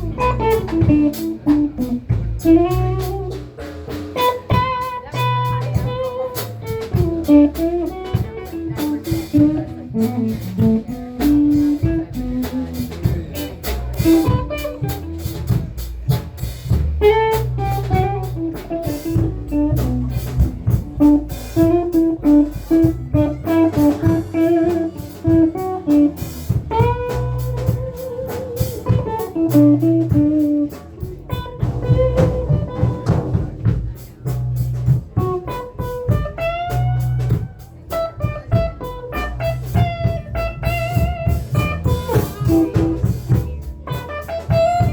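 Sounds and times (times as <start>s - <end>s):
blues band playing: 0.0s - 44.9s
lead guitar with bent notes: 0.0s - 44.9s.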